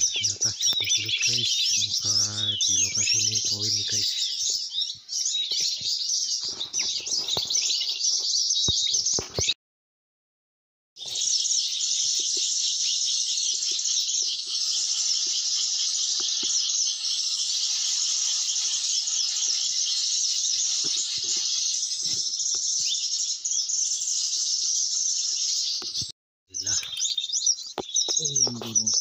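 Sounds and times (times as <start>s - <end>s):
birds and insects chirping: 0.0s - 9.6s, 11.0s - 29.0s.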